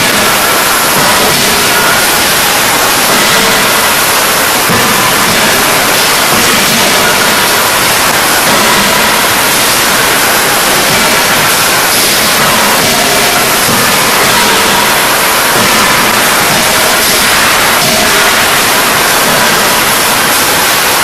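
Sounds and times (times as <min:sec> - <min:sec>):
forging machinery din: 0:00.0 - 0:21.0.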